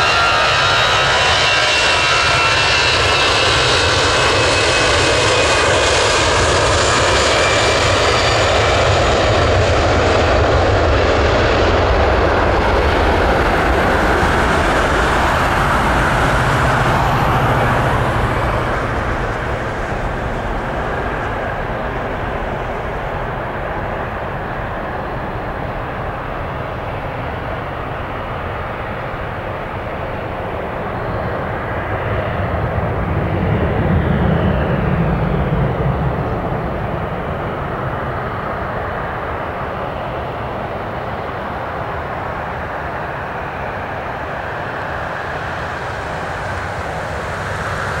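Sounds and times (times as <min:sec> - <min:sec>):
jet engines at takeoff: 0:00.0 - 0:48.0.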